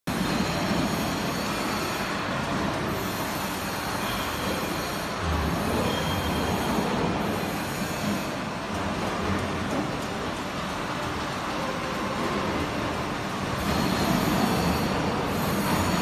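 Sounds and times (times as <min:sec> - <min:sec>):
factory machinery noise: 0:00.1 - 0:16.0.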